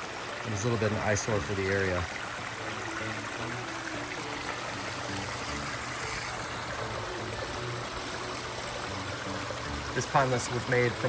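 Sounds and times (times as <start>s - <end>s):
water rushing over waterfalls: 0.0s - 11.0s.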